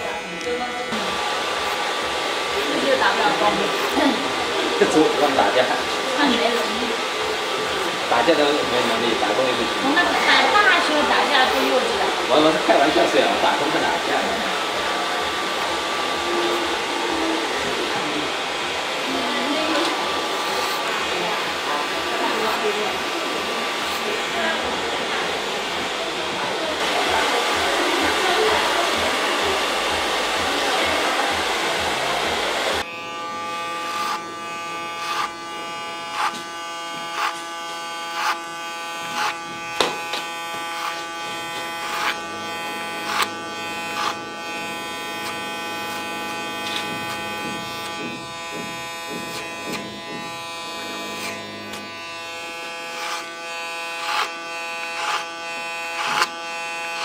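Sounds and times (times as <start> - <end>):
electric hair clipper running: 0.0 - 57.0.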